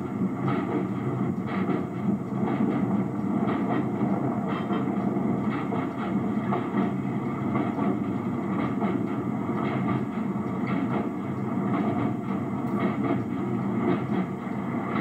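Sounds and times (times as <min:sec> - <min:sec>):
diesel locomotive running: 0:00.0 - 0:15.0.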